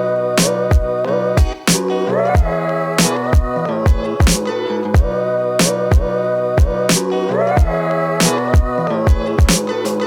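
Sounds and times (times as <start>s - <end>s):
hip hop beat: 0.0s - 10.0s.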